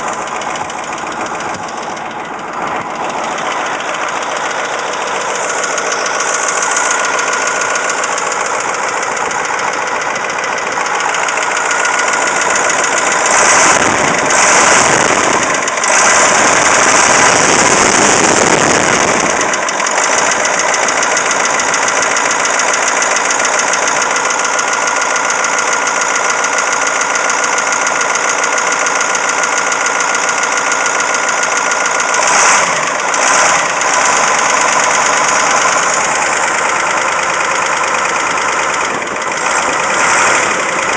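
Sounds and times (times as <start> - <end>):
diesel engine rattling knock: 0.0 - 40.9.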